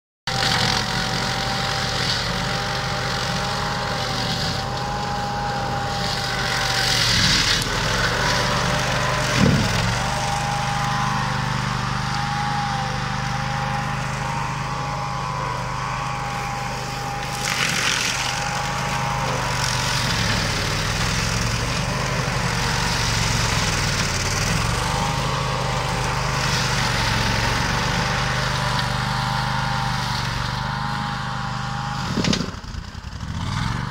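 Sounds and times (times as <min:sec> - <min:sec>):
mower engine running: 0:00.3 - 0:33.9.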